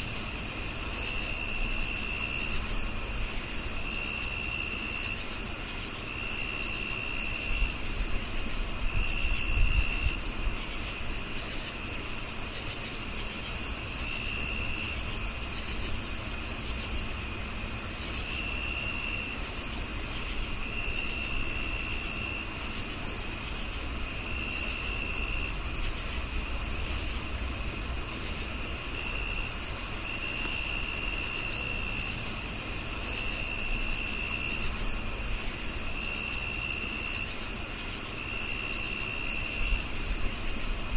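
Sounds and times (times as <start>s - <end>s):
cricket chirping: 0.0s - 40.9s
cricket continuous high trill: 0.0s - 40.9s
lower cricket trills: 0.0s - 40.9s.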